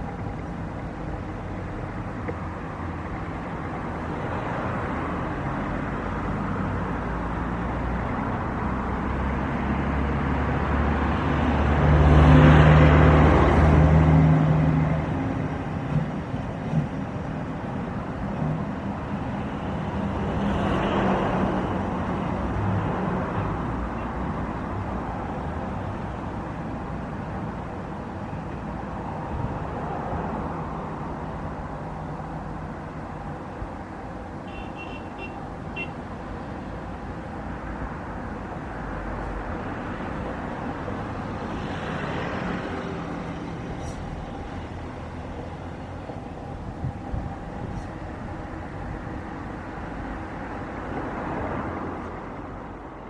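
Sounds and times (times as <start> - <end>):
outdoor engine noise: 0.0 - 53.0
vehicles passing: 0.0 - 53.0.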